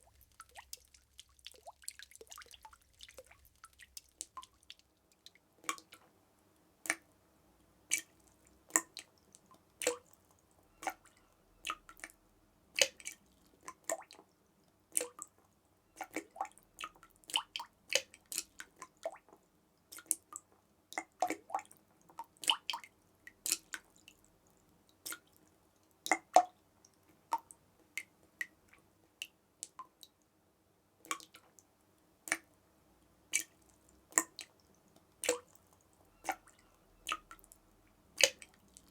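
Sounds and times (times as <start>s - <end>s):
water dripping: 0.0s - 6.2s, 6.8s - 7.1s, 7.8s - 12.2s, 12.8s - 30.2s, 31.0s - 31.6s, 32.2s - 32.6s, 33.3s - 38.9s.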